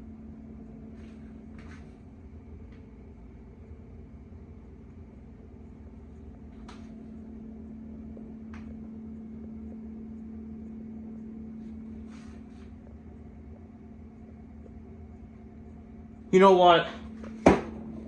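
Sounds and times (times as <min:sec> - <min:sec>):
ceiling fan hum: 0:00.0 - 0:18.0.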